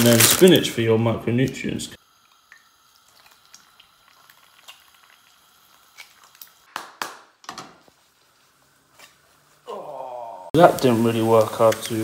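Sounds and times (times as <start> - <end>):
eggs sizzling in a pan: 0.0 - 6.7, 7.3 - 12.0.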